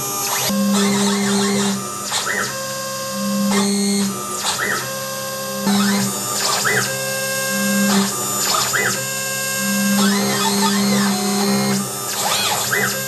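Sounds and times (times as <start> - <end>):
axis motors whirring: 0.0 - 13.0
router spindle whine: 0.0 - 13.0.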